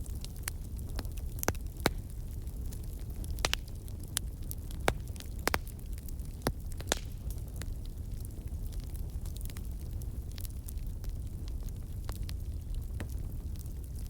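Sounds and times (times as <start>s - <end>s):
fire pops and snaps: 0.0s - 14.0s
fireplace flames rumbling: 0.0s - 14.0s.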